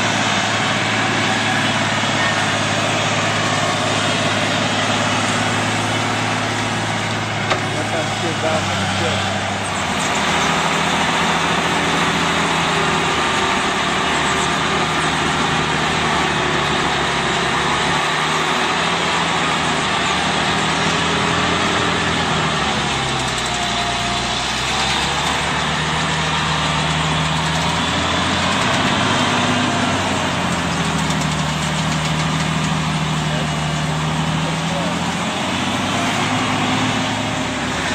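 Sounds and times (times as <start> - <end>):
heavy machine engine running: 0.0 - 37.9.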